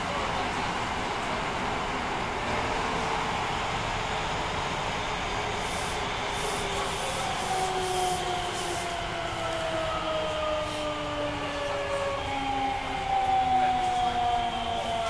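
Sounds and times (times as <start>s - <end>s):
rail running noise: 0.0s - 15.0s
train inverter whining: 0.0s - 15.0s.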